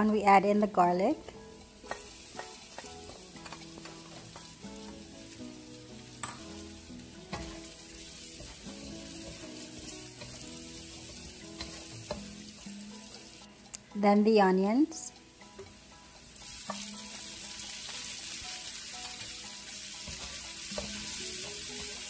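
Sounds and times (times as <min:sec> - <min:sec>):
garlic sizzling in fat: 0:00.0 - 0:22.0.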